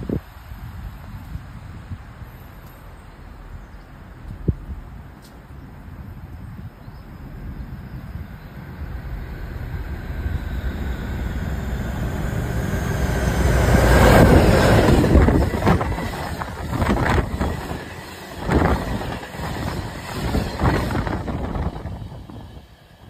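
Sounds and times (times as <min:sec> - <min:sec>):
diesel locomotive passing at speed: 0:00.0 - 0:23.0
train wagons rumbling past: 0:02.2 - 0:23.0.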